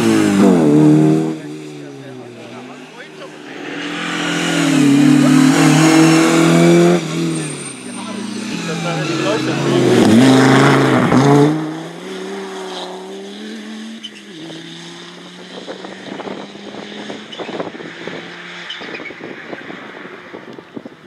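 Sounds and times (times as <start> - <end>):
rally car passing at speed: 0.0 - 20.8.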